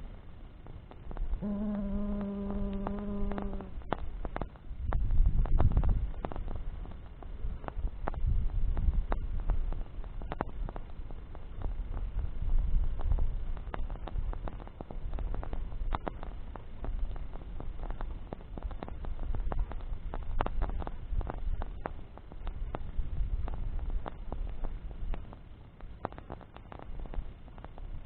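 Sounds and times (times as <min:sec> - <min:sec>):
campfire crackling and popping: 0:00.0 - 0:28.0
low fire rumble: 0:00.0 - 0:28.0.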